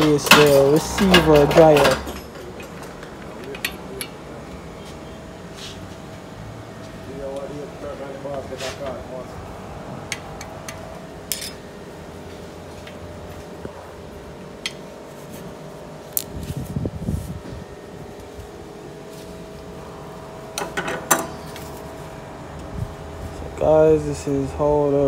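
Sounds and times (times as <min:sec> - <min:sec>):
fan-like hum: 0:00.0 - 0:25.0.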